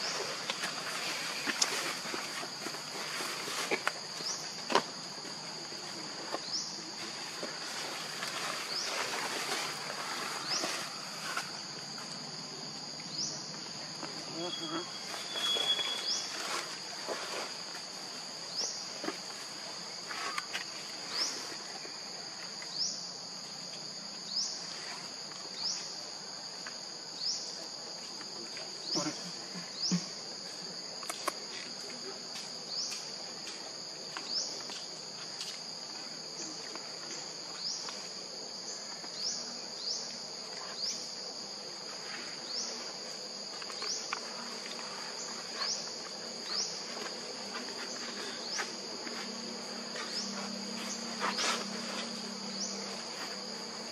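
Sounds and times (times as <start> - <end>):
insects buzzing: 0.0 - 53.9.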